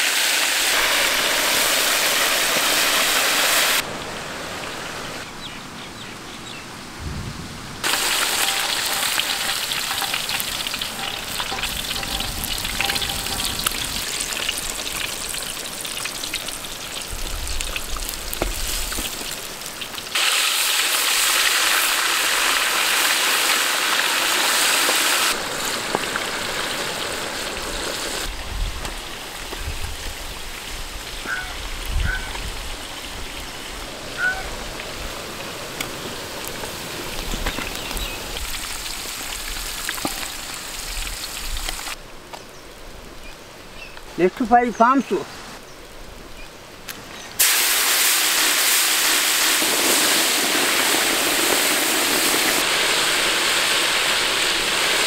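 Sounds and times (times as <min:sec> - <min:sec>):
fish sizzling in hot oil: 0:00.0 - 0:03.8, 0:07.8 - 0:31.2, 0:32.1 - 0:42.0, 0:47.4 - 0:55.0.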